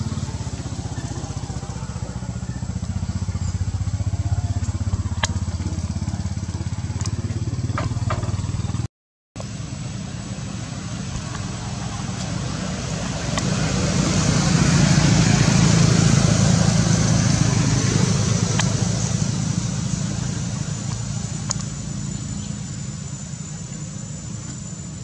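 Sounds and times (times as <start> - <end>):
passing vehicle engine rumble: 0.0 - 25.0.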